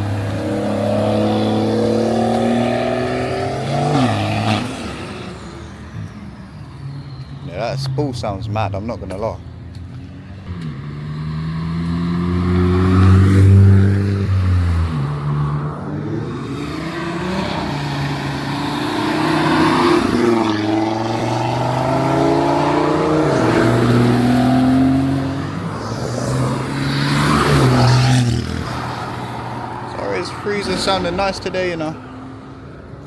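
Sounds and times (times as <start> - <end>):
cars driving past revving: 0.0 - 33.0.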